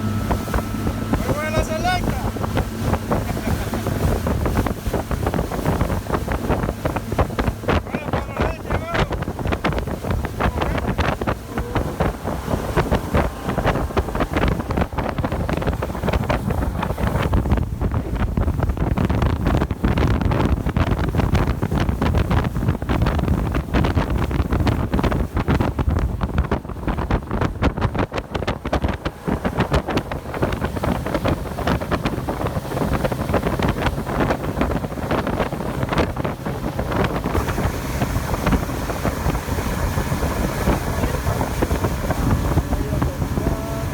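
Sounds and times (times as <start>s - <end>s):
water rushing: 0.0s - 43.9s
wind buffeting microphone: 0.0s - 43.9s.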